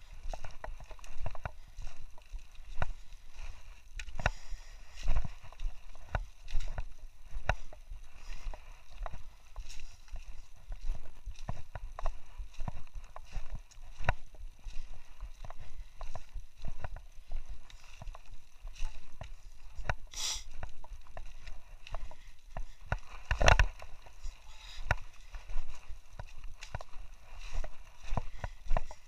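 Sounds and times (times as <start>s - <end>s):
footsteps crunching on rocky trail: 0.0s - 29.0s.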